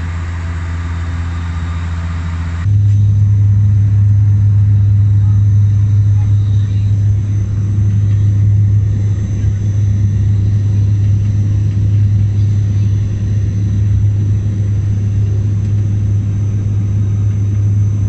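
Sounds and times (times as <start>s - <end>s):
low rumble: 0.0s - 18.0s
propeller drone in aircraft cabin: 0.0s - 18.0s.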